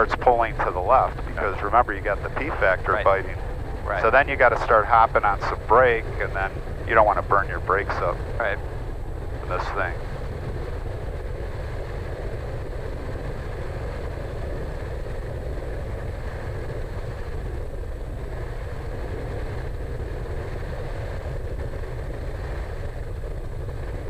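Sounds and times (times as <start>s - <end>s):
turboprop engine running: 0.0s - 24.0s.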